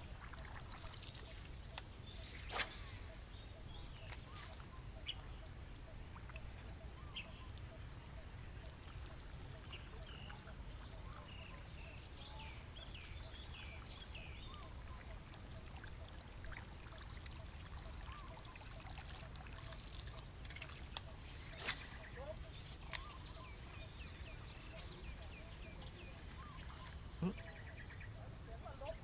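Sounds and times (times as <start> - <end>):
birds chirping and calling: 1.1 - 29.0.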